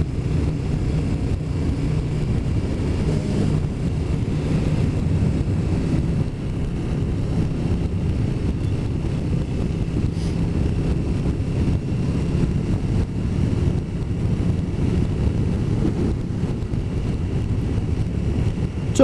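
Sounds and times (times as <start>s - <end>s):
motorcycle engine cruising: 0.0s - 19.0s
wind noise on microphone: 0.0s - 19.0s.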